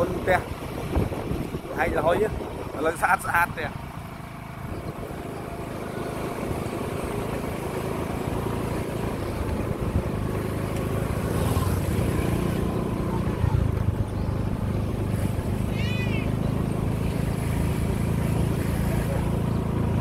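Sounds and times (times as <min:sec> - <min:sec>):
motorbike engine rumble: 0:00.0 - 0:20.0.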